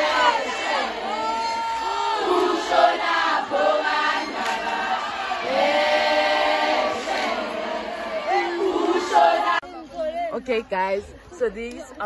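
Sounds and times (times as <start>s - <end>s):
group of people singing: 0.0s - 9.8s.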